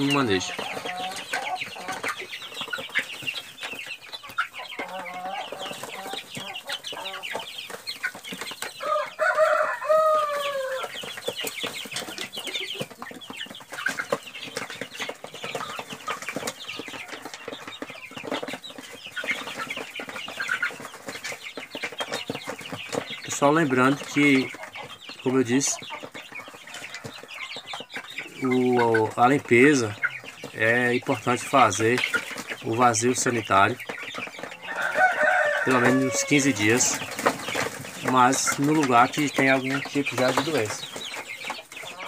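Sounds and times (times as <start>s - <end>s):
chicks peeping: 0.0s - 42.0s.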